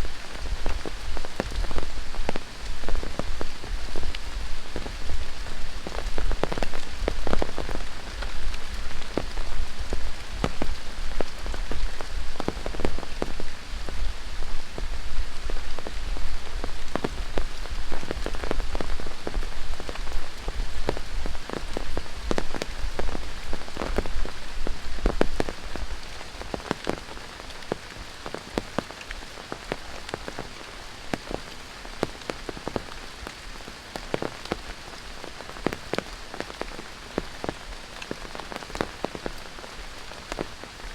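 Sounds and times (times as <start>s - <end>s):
close raindrops pattering: 0.0s - 40.9s
steady rain: 0.0s - 40.9s.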